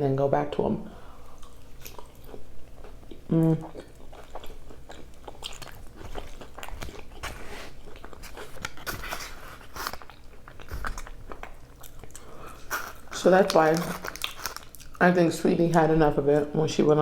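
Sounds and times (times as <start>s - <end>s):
person chewing food: 1.1s - 15.0s.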